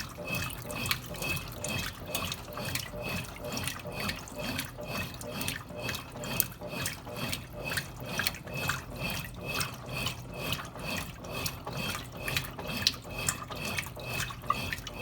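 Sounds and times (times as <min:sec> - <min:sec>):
washing machine water sloshing: 0:00.0 - 0:15.0.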